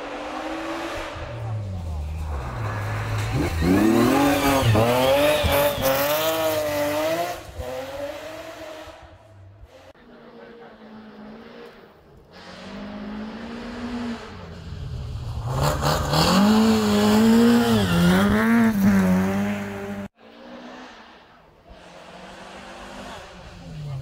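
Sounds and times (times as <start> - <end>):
rally car engine passing: 0.0 - 24.0.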